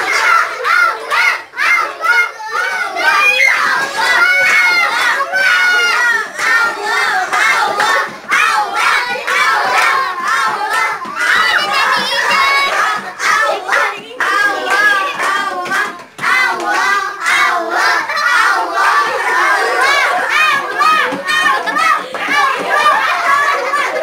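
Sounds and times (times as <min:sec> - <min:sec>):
children shouting and squealing: 0:00.0 - 0:24.0.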